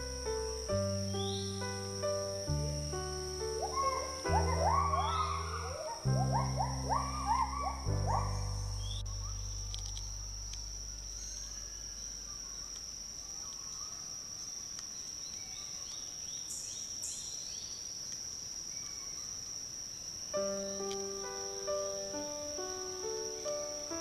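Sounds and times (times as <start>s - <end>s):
insects high-pitched drone: 0.0s - 24.0s.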